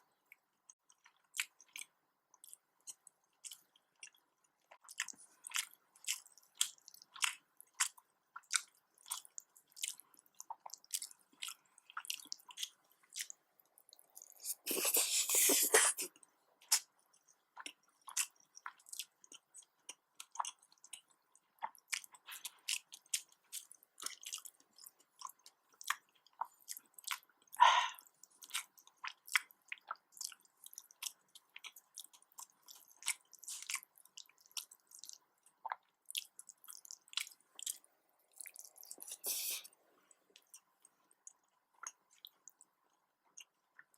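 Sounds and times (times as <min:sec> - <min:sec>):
person chewing and smacking: 0:00.2 - 0:43.9.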